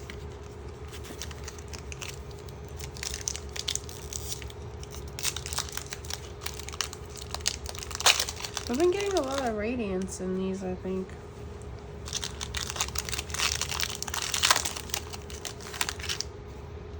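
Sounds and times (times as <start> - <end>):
foil wrapper crinkling and tearing: 0.0 - 9.6, 12.0 - 16.3.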